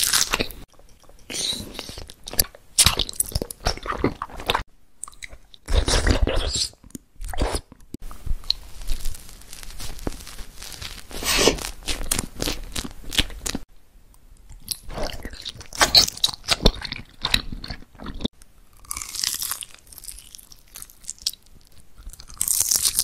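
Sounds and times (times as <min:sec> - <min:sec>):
crunchy chewing: 0:00.0 - 0:07.7, 0:08.4 - 0:13.6, 0:14.5 - 0:23.0.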